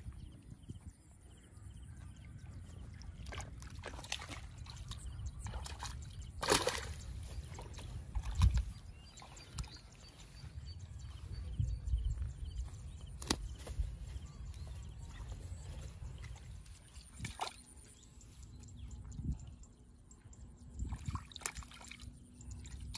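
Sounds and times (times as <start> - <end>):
muddy water sloshing and splashing: 2.0 - 19.6, 20.2 - 22.9.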